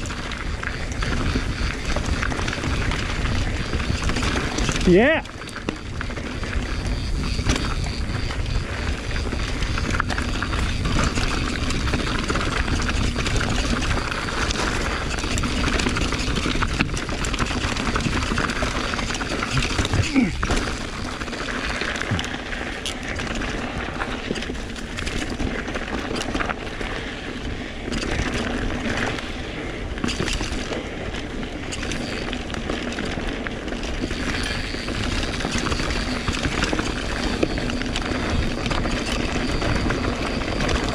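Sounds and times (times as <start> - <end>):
bike rattling over rocks: 0.0 - 40.9
wind and tyres rumbling: 0.0 - 40.9.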